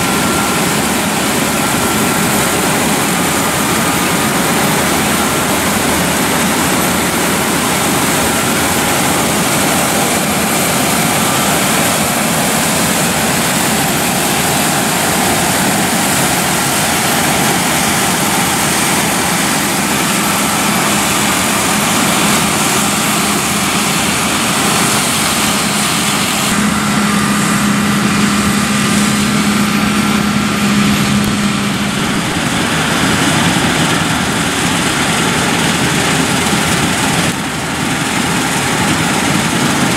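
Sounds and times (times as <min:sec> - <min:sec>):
combine harvester threshing: 0:00.0 - 0:39.9.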